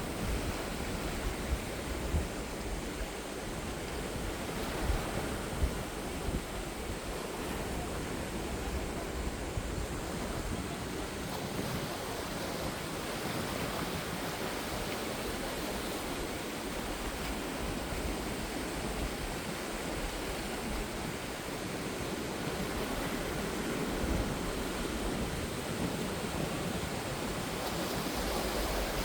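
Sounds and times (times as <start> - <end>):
ocean surf rushing: 0.0 - 29.0.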